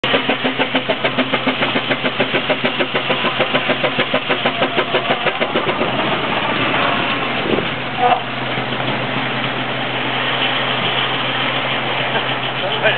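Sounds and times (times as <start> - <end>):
steam engine exhaust chuffing: 0.0 - 12.9
steady rushing sound: 0.1 - 12.9.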